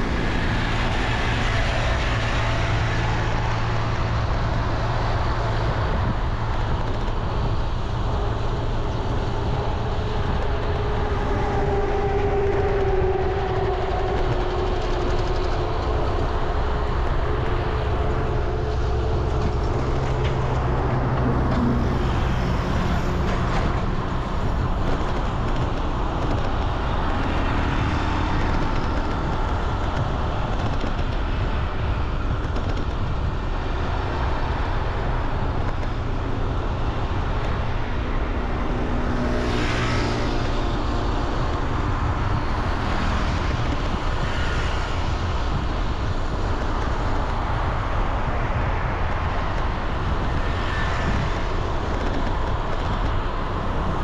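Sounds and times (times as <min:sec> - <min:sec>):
tyres running on road: 0:00.0 - 0:54.0
vehicle engines humming: 0:00.0 - 0:54.0.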